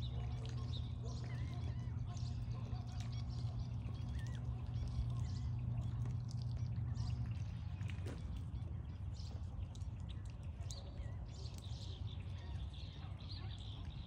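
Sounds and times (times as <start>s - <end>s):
ducks dabbling in water: 0.0s - 14.0s
small birds chirping: 0.0s - 14.0s
steady low hum: 0.0s - 14.0s
water splashing and dripping: 0.0s - 14.0s.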